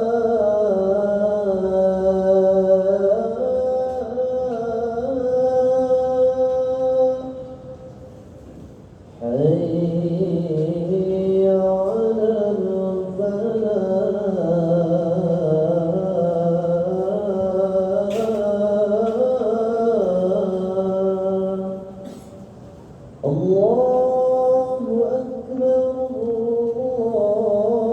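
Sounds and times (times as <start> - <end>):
man chanting call to prayer: 0.0 - 8.0, 9.2 - 22.5, 23.2 - 27.9.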